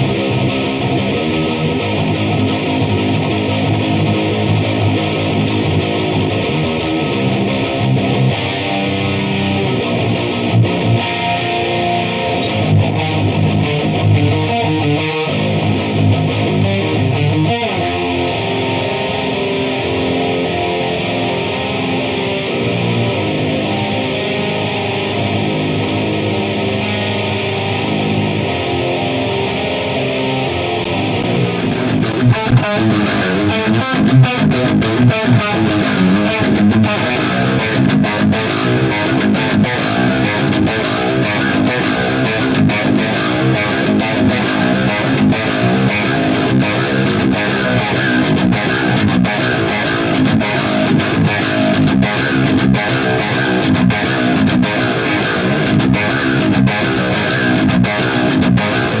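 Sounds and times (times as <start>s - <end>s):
distorted electric guitar riff: 0.0s - 59.0s.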